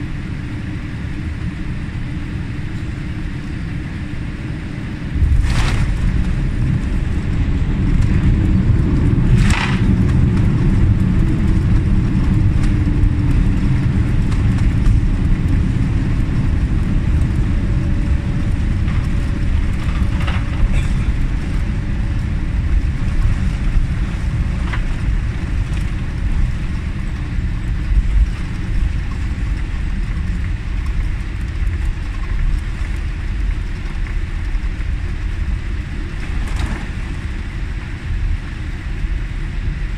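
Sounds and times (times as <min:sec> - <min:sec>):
aircraft engine roar in cabin: 0:00.0 - 0:39.9.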